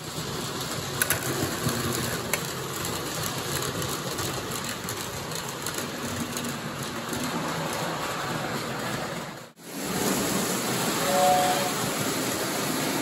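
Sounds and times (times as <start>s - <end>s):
model train rolling rumble: 0.0s - 13.0s.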